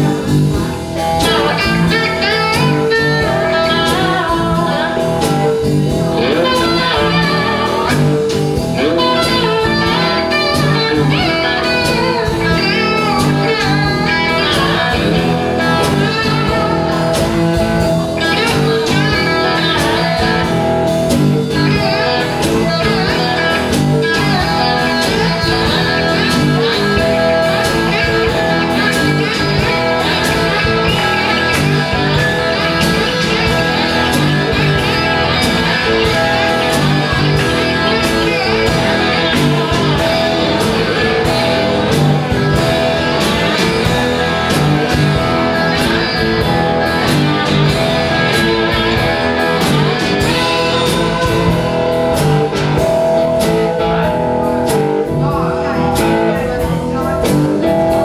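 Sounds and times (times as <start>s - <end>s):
blues band playing live: 0.0s - 58.0s.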